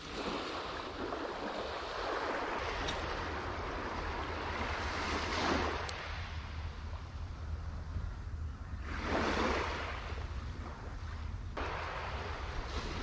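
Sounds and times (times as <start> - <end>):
small waves lapping on beach: 0.0 - 7.9, 8.8 - 13.0
wind on microphone: 0.0 - 13.0.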